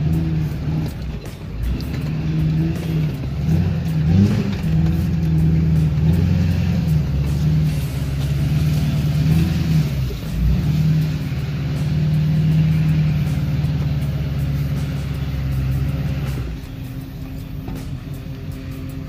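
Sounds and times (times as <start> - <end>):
vehicle engine from inside cab: 0.0 - 19.0.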